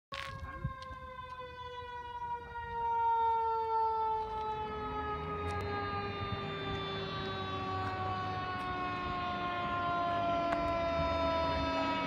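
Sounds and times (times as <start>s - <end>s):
fire truck siren wailing: 0.1s - 12.0s.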